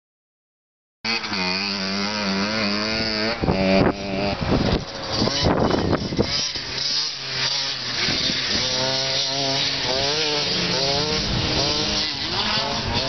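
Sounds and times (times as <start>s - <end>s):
small dirt bike engine buzzing: 1.0s - 13.0s.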